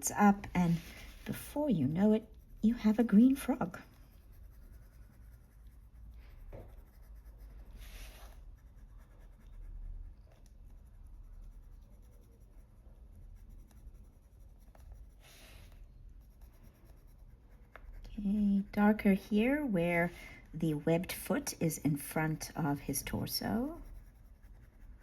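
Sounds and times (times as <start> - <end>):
coloured pencil scratching on paper: 0.0 - 25.0.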